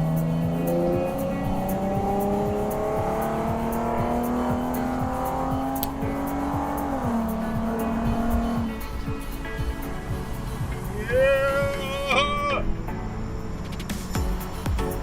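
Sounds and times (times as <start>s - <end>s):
car engine accelerating: 0.0s - 15.0s
music with steady beat: 0.0s - 15.0s.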